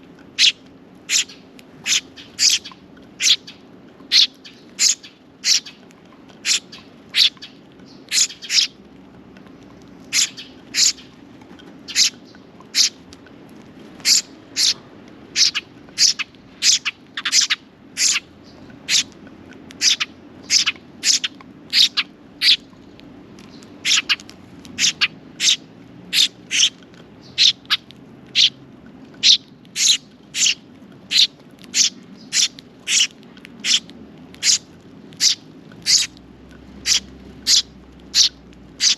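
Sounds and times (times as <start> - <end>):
sparrow chirping: 0.4 - 5.8, 6.4 - 8.8, 10.0 - 11.2, 11.8 - 13.0, 14.0 - 19.1, 19.7 - 28.6, 29.2 - 36.2, 36.8 - 38.9.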